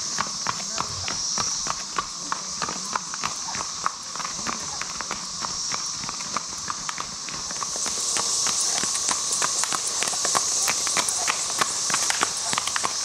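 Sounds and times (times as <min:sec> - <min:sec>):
cicadas droning: 0:00.0 - 0:13.0
horses hooves clip-clopping: 0:00.0 - 0:13.0.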